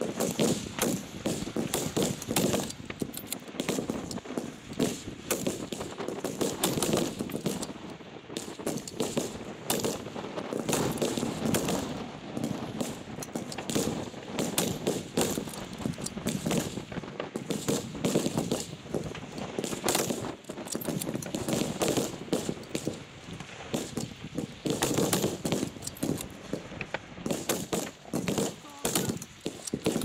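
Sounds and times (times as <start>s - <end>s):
rifle shots: 0.0s - 7.8s, 8.4s - 23.0s, 23.7s - 30.0s.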